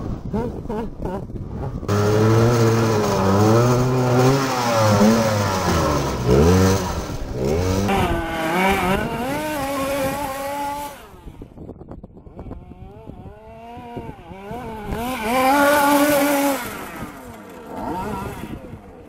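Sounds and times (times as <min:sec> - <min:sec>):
tires on gravel: 0:00.9 - 0:11.6, 0:12.4 - 0:19.0
small two-stroke engine revving: 0:01.1 - 0:11.6, 0:12.2 - 0:19.0.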